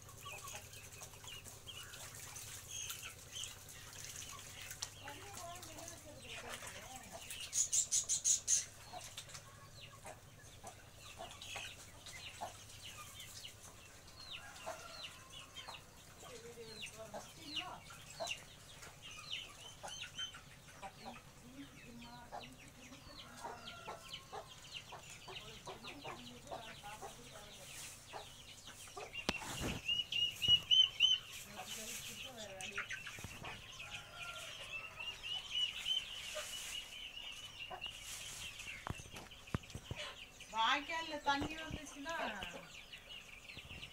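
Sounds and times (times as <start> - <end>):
chickens clucking: 0.0 - 43.9
chicks peeping: 0.0 - 43.9.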